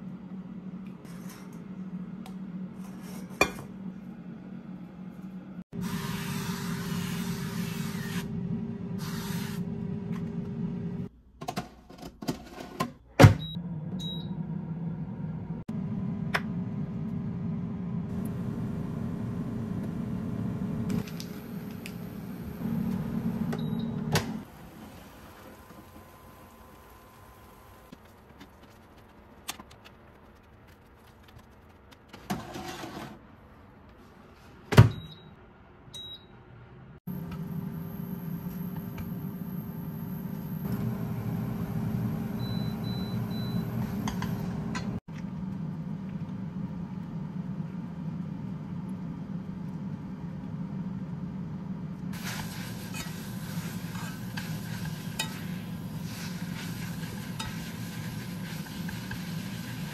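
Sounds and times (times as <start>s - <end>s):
oven humming: 0.0s - 11.1s, 13.2s - 27.9s, 37.0s - 59.9s.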